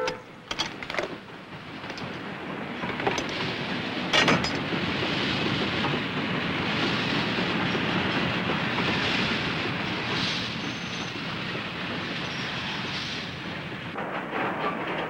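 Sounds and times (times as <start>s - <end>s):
freight train wheels clacking: 0.0s - 15.0s
train clatter: 0.0s - 15.0s.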